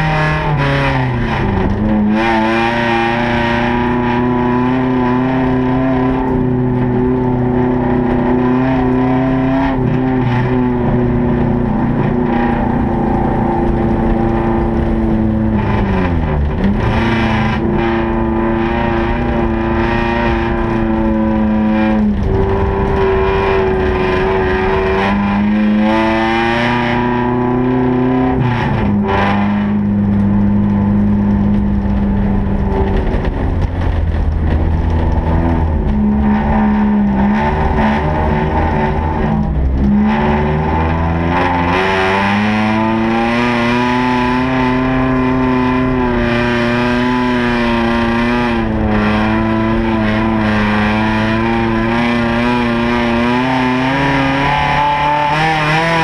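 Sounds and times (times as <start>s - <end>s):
car engine revving high: 0.0s - 56.0s.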